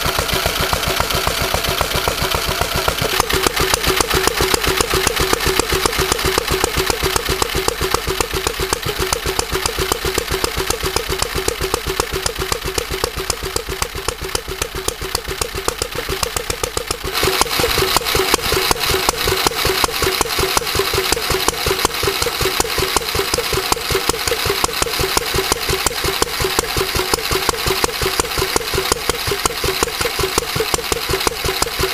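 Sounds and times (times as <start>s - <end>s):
single-cylinder engine running: 0.0s - 31.9s.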